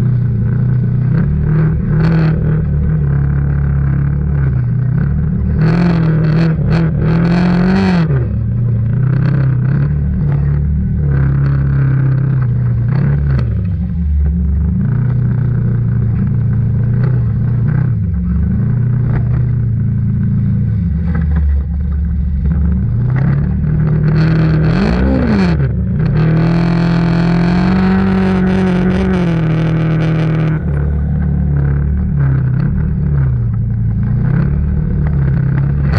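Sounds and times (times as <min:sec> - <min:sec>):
atv engine revving: 0:00.0 - 0:35.9.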